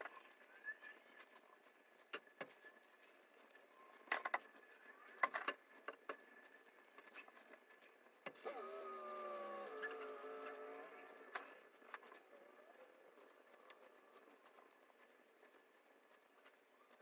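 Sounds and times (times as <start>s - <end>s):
faint clicks and taps: 0.0s - 17.0s
motor hum: 0.0s - 17.0s.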